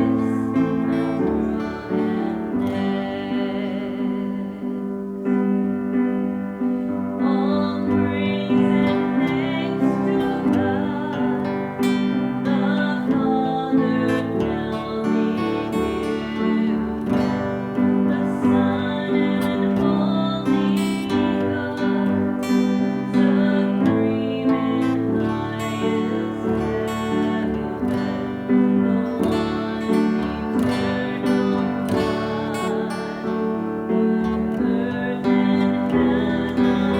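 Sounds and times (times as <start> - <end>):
acoustic guitar chords: 0.0 - 36.9
wavering guitar melody: 0.0 - 36.9.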